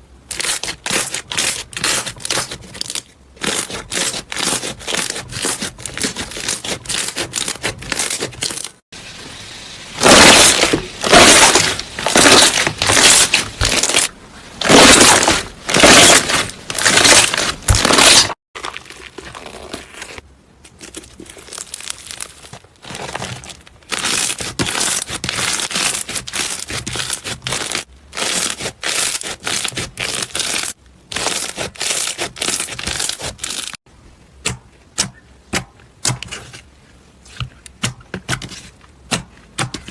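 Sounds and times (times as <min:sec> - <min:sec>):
slime squishing by hand: 0:00.3 - 0:08.8, 0:10.0 - 0:33.8.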